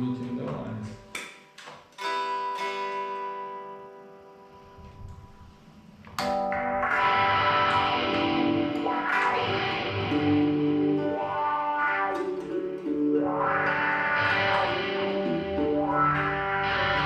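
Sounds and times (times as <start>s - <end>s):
distorted electric guitar chords: 1.9s - 17.0s.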